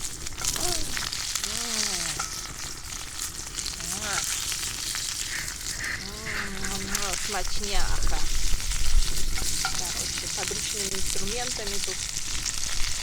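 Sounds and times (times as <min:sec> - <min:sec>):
fat sizzling in a skillet: 0:00.0 - 0:13.0.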